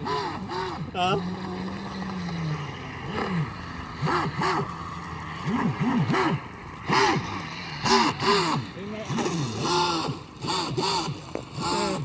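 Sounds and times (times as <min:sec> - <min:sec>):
model boat motor revving: 0:00.0 - 0:12.0.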